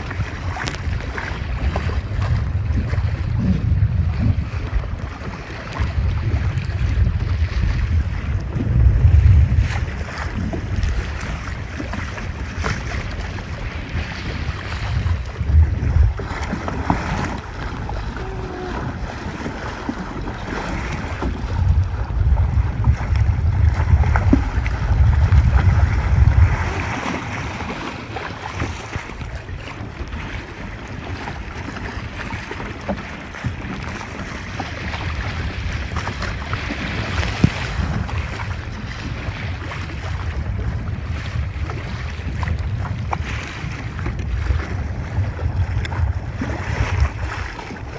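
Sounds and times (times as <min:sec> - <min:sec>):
rushing water and waves: 0:00.0 - 0:47.9
wind buffeting microphone: 0:00.0 - 0:47.9.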